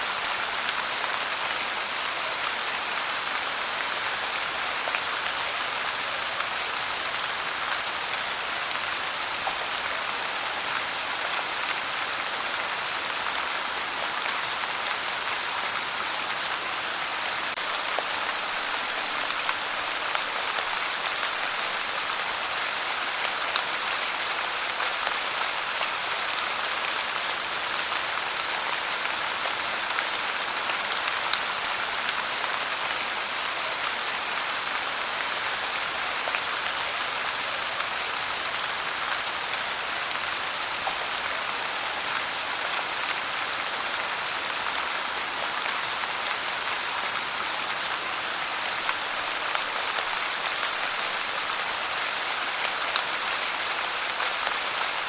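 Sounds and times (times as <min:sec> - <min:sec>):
pouring rain: 0:00.0 - 0:55.0.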